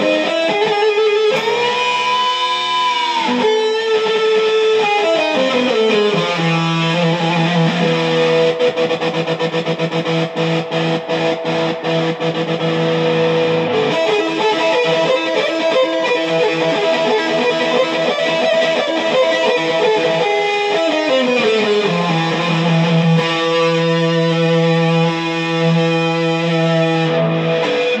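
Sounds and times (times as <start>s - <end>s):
electric guitar riff: 0.0s - 28.0s.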